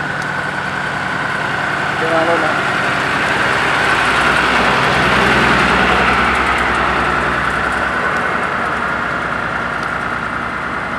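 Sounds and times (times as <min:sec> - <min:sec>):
higher hum: 0:00.0 - 0:10.6
diesel engine running: 0:00.0 - 0:10.9.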